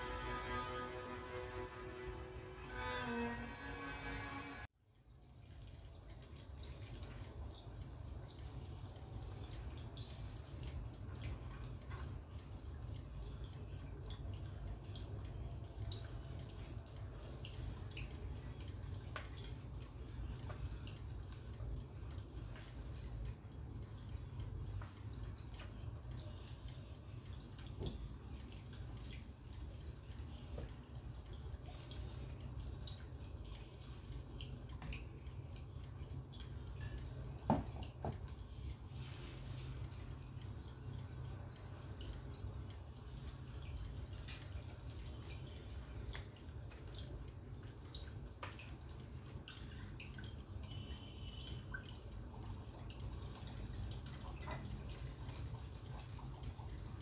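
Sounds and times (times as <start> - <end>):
water dripping: 0.0 - 57.0.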